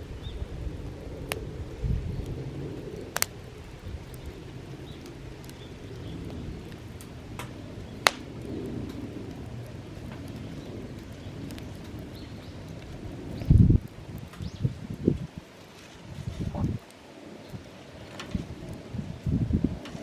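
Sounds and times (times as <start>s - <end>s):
burning wood popping and crackling: 0.0s - 20.0s
campfire low rush: 0.0s - 20.0s.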